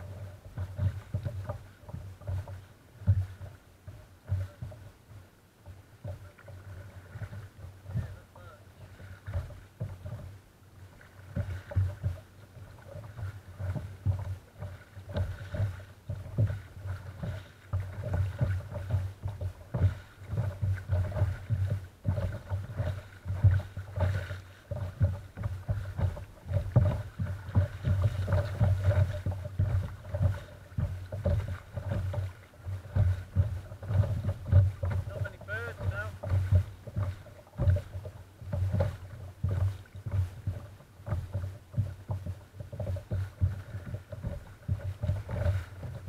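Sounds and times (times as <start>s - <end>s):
waves slapping kayak hull: 0.0s - 46.0s.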